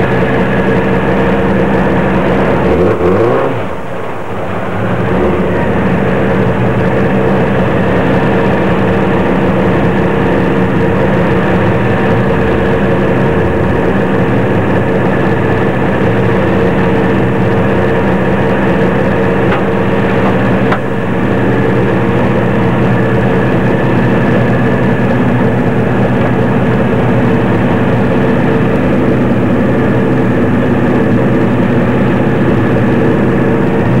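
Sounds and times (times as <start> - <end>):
truck engine idling: 0.0 - 34.0.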